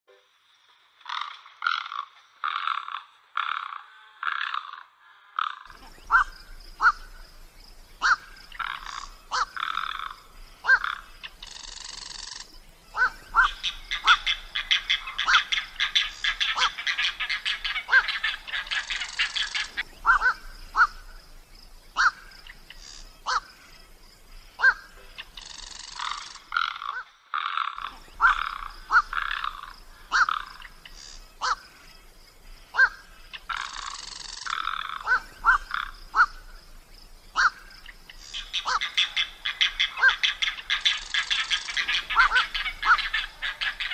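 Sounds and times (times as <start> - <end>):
frogs croaking: 0.1 - 43.9.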